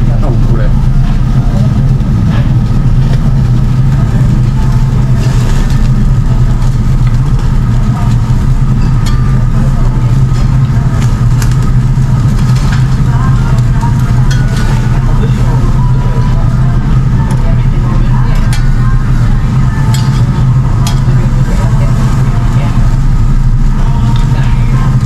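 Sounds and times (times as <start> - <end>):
smoke extraction fan drone: 0.0 - 25.0.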